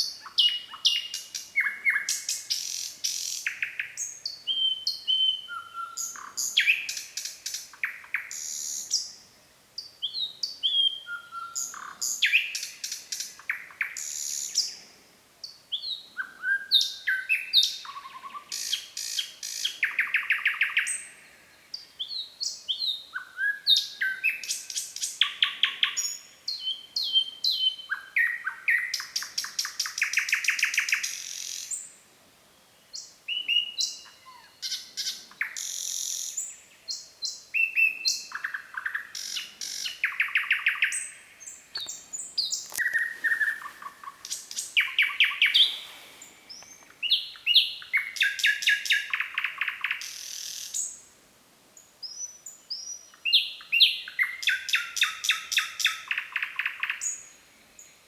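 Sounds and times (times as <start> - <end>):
nightingale singing trills: 0.0 - 32.0, 32.8 - 51.1, 51.8 - 58.0.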